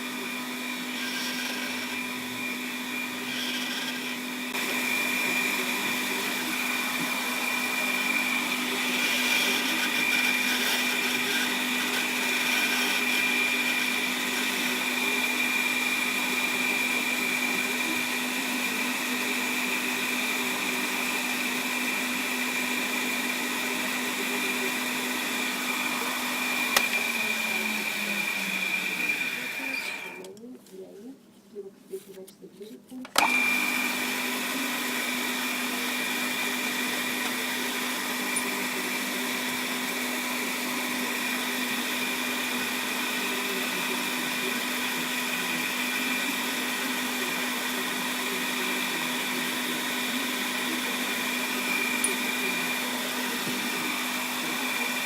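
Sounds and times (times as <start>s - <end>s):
lathe motor whining: 0.0s - 30.3s, 33.2s - 55.0s.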